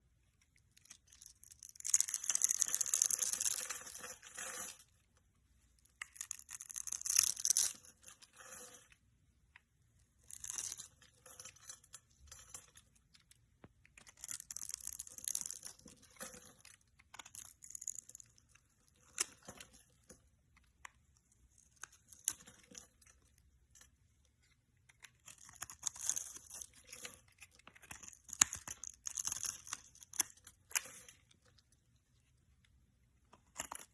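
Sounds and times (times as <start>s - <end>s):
crackly tearing and crunching: 0.4s - 4.8s, 5.9s - 8.8s, 10.2s - 31.7s.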